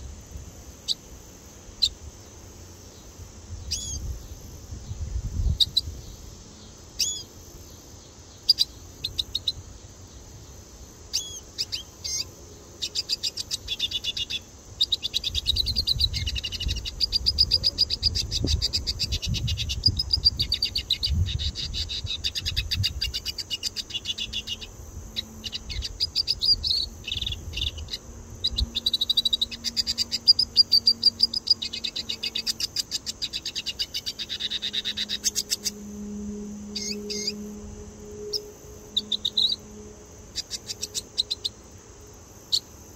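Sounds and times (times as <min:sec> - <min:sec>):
bird singing buzzy twitter: 0:00.7 - 0:42.9.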